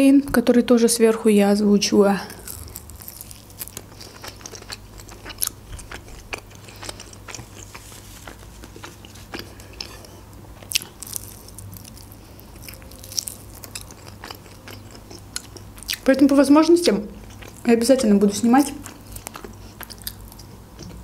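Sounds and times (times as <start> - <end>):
person chewing wet mouth sounds: 2.3 - 17.7, 18.6 - 21.0.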